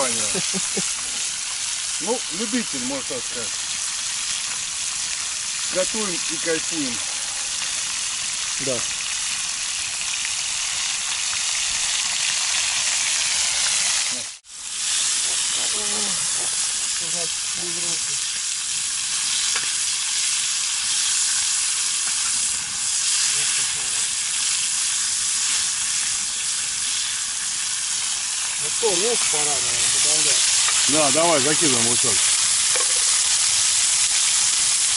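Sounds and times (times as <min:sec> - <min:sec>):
meat frying in hot fat: 0:00.0 - 0:34.9.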